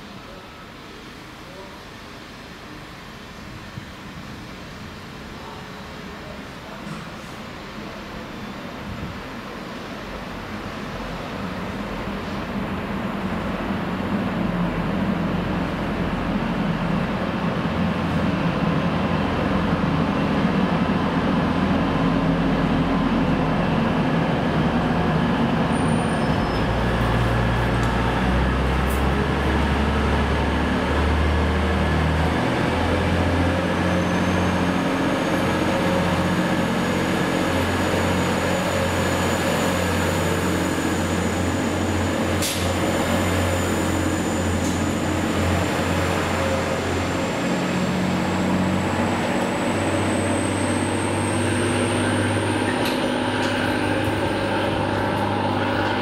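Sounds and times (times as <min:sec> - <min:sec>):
diesel train engine: 0:00.0 - 0:56.0.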